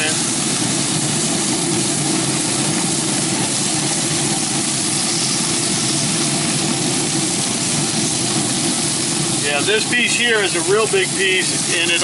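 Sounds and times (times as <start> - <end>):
even hiss: 0.0 - 12.0
mechanical drone: 0.0 - 12.0.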